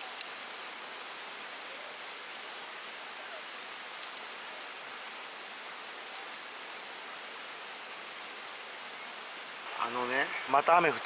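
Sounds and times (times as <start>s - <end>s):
rain falling: 0.0s - 11.0s
wood fire crackling: 0.0s - 11.0s.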